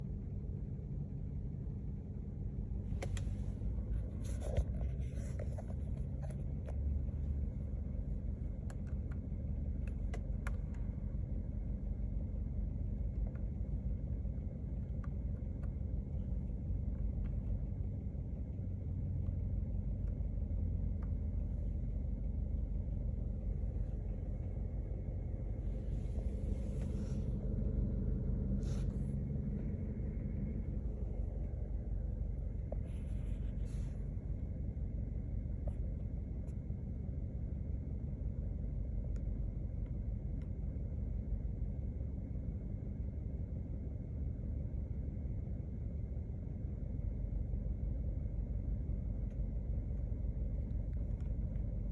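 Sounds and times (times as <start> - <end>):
car engine idling: 0.0 - 51.9.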